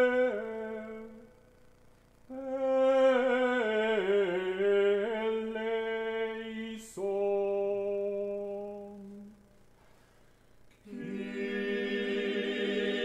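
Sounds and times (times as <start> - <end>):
a cappella ensemble singing chords: 0.0 - 1.6, 2.3 - 10.1, 10.7 - 13.0.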